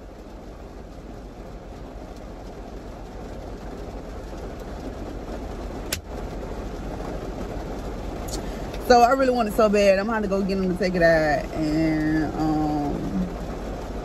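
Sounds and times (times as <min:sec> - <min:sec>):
rain on a car roof: 0:00.0 - 0:14.0.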